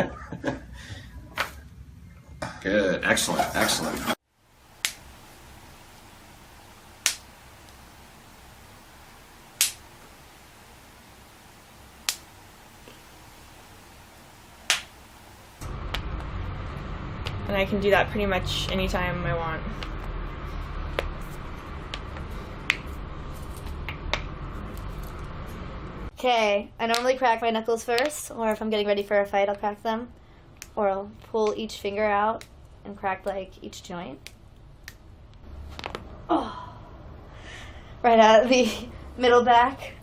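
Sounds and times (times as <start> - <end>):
low steady background hum: 0.0 - 40.0.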